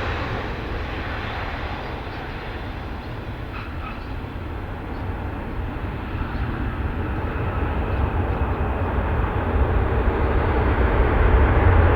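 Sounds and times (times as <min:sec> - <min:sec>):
jet engines rumbling: 0:00.0 - 0:11.9.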